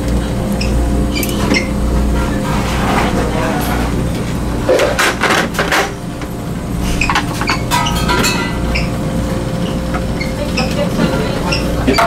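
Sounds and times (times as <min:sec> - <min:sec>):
ship engines droning: 0:00.0 - 0:12.0
utensils and dishes clinking: 0:00.5 - 0:06.0, 0:06.8 - 0:12.0.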